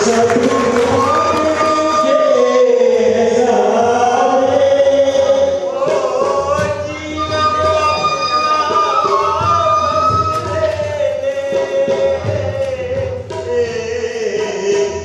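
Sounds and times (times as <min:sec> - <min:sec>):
harmonium holding notes: 0:00.0 - 0:15.0
man singing melodic phrases: 0:00.0 - 0:15.0.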